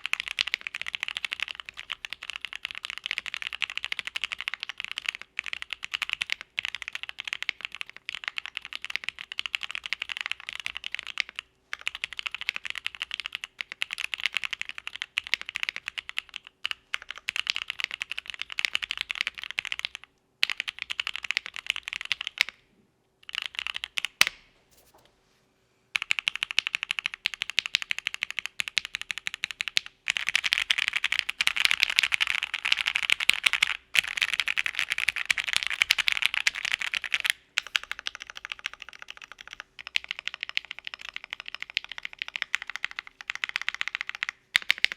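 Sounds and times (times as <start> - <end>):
fast mechanical keyboard typing: 0.0 - 22.5, 23.2 - 24.2, 26.0 - 44.9.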